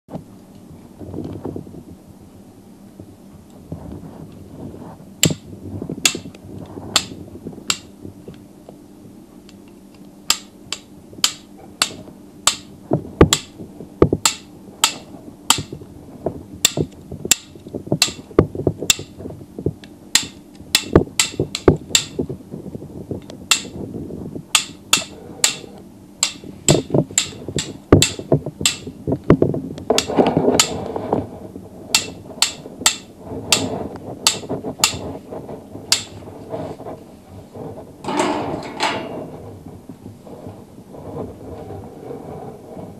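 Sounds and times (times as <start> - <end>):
low background rumble: 0.1 - 42.9.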